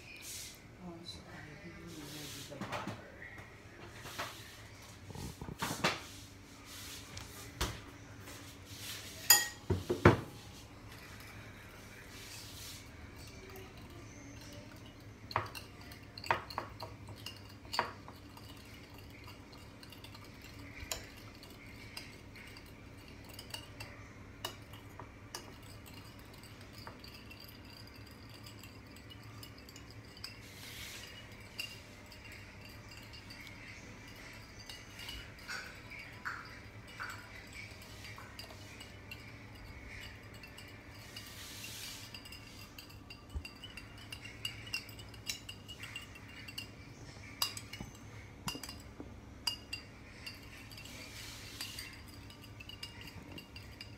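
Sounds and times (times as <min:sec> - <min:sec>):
spoon clinking in ceramic bowl: 0:09.2 - 0:10.1, 0:10.9 - 0:53.9.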